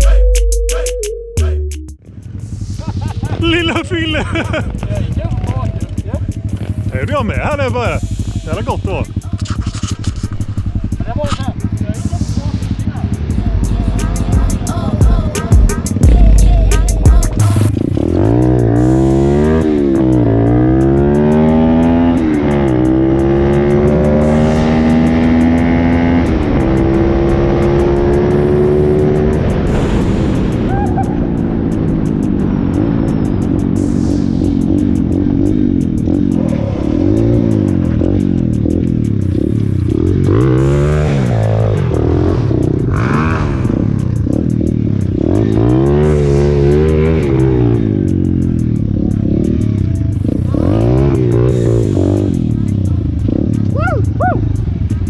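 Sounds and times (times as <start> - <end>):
motorbike engine revving: 2.0 - 55.0.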